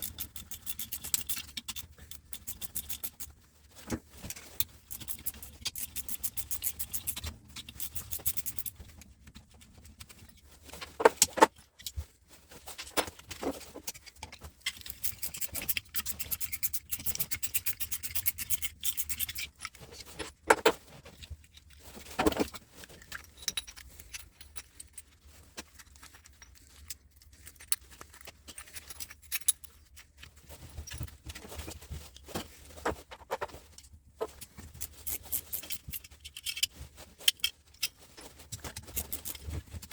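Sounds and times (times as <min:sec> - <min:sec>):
metal tools clinking and rattling: 0:00.0 - 0:03.3, 0:04.2 - 0:08.9, 0:12.8 - 0:31.7, 0:34.2 - 0:39.9.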